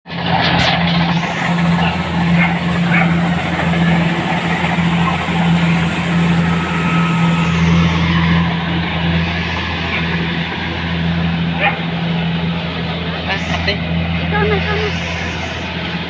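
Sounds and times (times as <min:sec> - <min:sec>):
harvesting machine engine running: 0:00.1 - 0:16.0.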